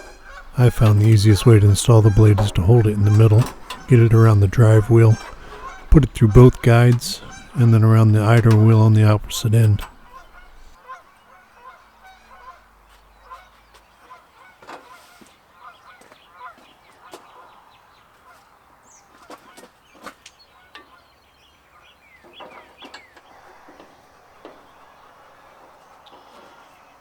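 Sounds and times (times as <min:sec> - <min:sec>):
faint fowl calls: 0:00.0 - 0:27.0.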